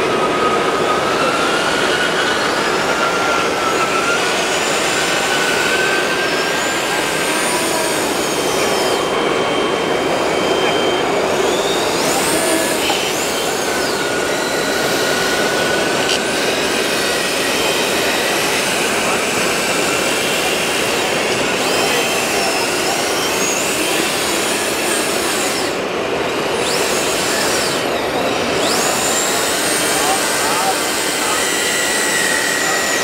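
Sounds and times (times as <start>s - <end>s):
model motor whining: 0.0s - 33.0s.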